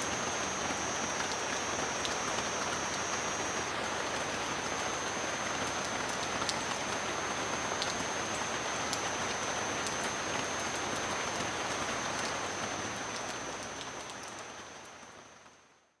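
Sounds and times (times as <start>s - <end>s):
faint high whine: 0.0s - 15.8s
steady rain: 0.0s - 16.0s.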